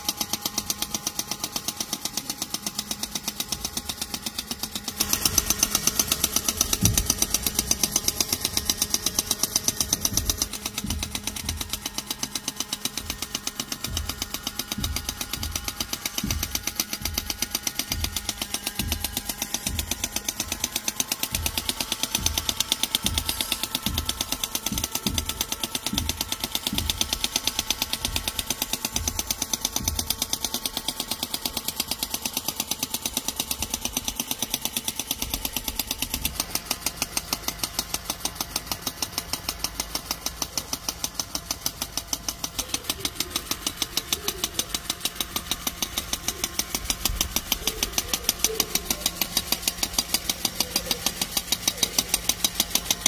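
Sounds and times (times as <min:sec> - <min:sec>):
machine rhythmic knocking: 0:00.0 - 0:53.0.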